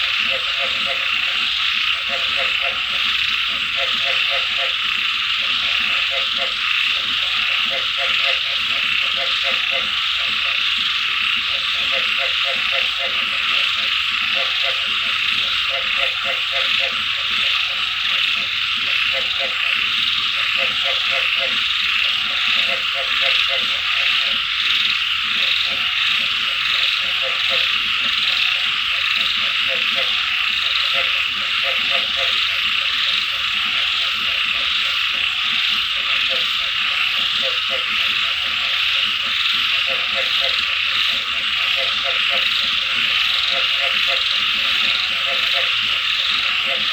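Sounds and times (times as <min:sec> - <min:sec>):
frogs croaking: 0:00.0 - 0:46.9
rain and insects hiss: 0:00.0 - 0:46.9.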